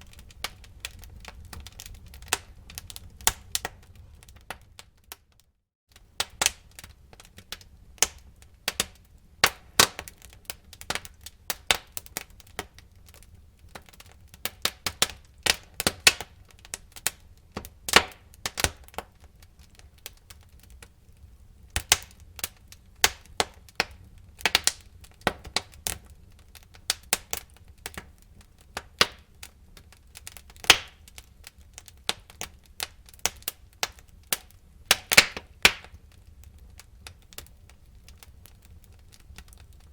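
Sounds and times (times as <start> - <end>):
low rumble of flames: 0.0 - 39.9
sharp fire pops and snaps: 0.0 - 39.9
wood fire crackling: 0.0 - 39.9.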